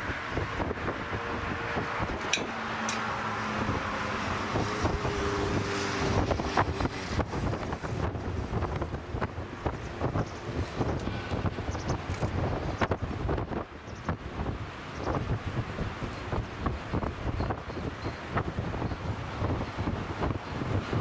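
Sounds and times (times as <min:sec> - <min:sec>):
faint jet engine noise: 0:00.0 - 0:21.0
gusty wind buffeting microphone: 0:00.0 - 0:21.0.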